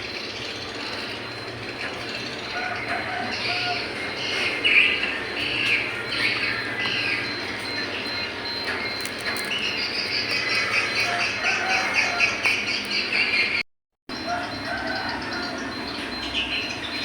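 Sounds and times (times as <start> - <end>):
small birds chirping: 0.0 - 13.6, 14.2 - 17.0.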